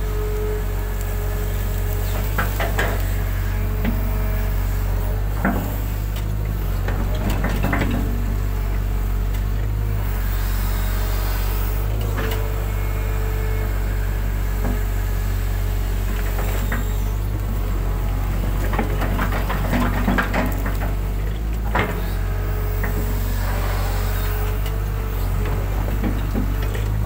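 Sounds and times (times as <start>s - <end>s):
engine whine: 0.0s - 27.0s
excavator diesel engine running: 0.0s - 27.0s.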